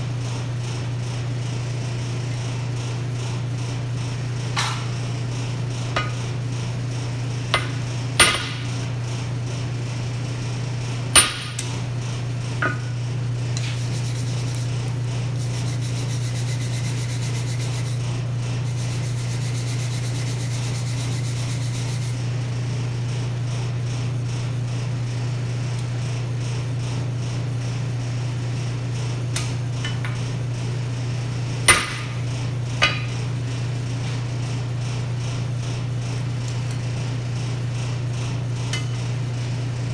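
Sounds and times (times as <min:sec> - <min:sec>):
forge blower humming: 0:00.0 - 0:39.9.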